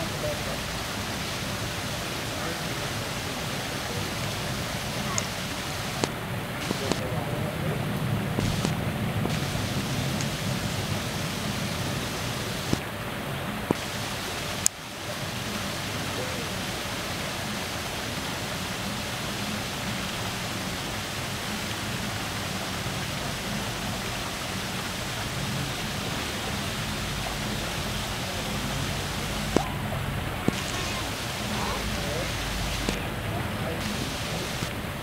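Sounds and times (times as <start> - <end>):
water rushing from rock waterfalls: 0.0 - 35.0.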